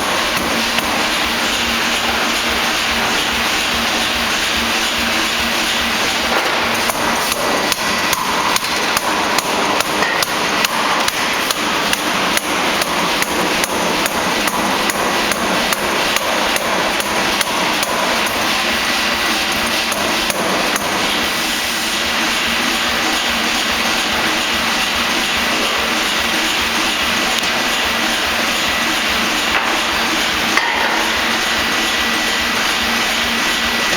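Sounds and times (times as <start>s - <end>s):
machine running: 0.0s - 33.9s.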